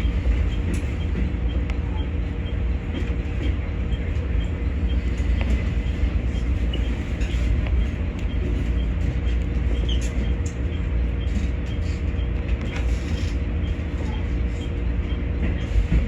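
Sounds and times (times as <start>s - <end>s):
railcar rumbling: 0.0s - 16.0s.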